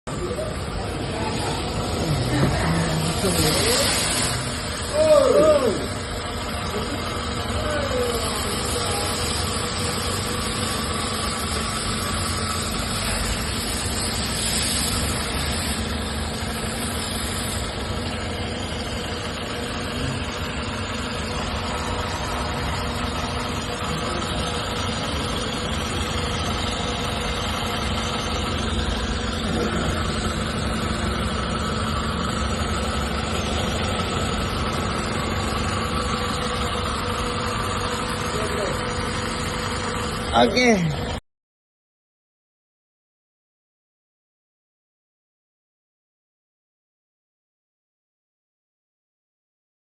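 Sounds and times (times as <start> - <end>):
car engine idling: 0.1 - 41.2.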